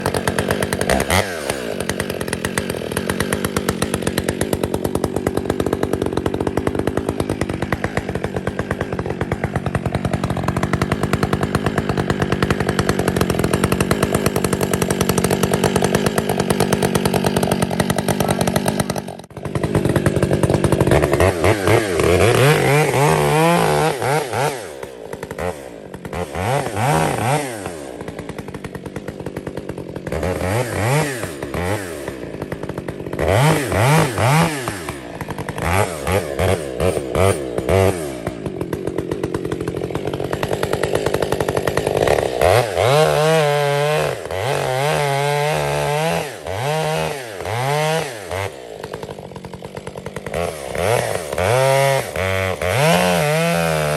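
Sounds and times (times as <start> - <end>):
chainsaw running and revving: 0.0 - 53.9.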